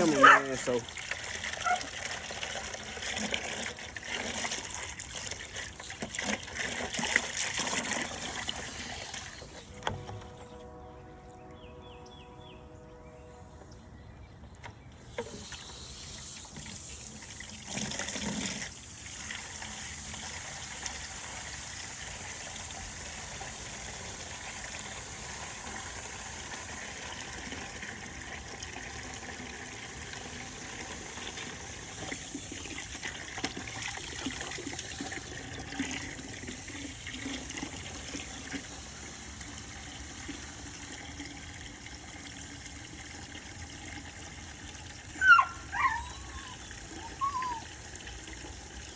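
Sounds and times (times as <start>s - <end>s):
water running: 0.0s - 10.0s, 15.1s - 48.9s.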